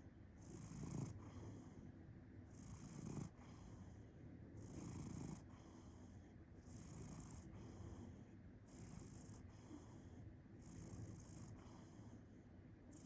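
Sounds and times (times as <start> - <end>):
cat purring and snoring: 0.0 - 13.0.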